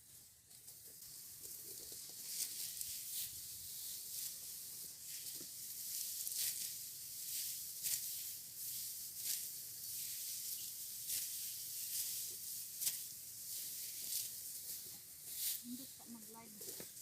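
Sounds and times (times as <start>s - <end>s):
rice stalks rustling and swishing: 0.0s - 17.0s
steady high hiss: 0.0s - 17.0s.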